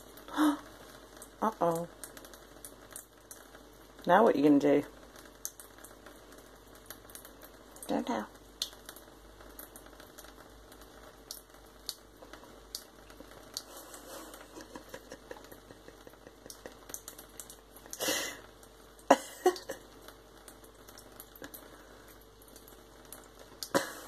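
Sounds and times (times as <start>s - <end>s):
water running from tap into sink: 1.2s - 24.0s.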